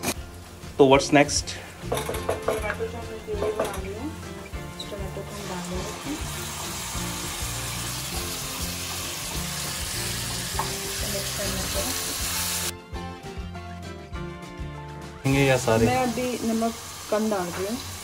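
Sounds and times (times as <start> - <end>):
vegetables sizzling in hot oil: 0.0 - 12.7, 15.3 - 18.0
background music: 0.0 - 18.0.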